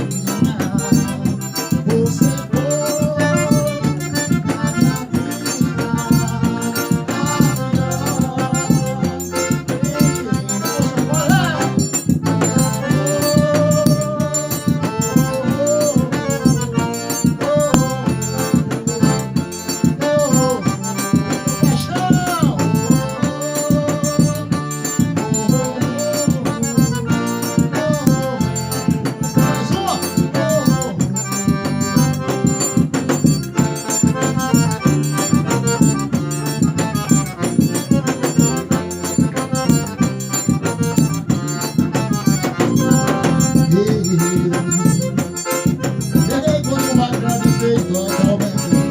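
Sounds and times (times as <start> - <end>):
accordion melody: 0.0 - 48.9
shaker beat: 0.0 - 48.9.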